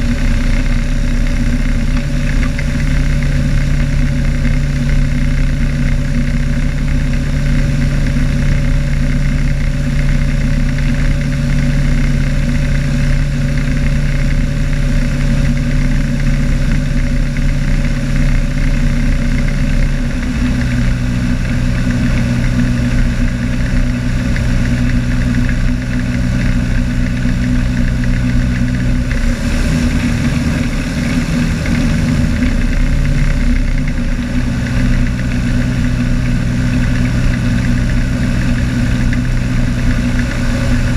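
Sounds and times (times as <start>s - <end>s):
floatplane engine running: 0.0s - 40.9s.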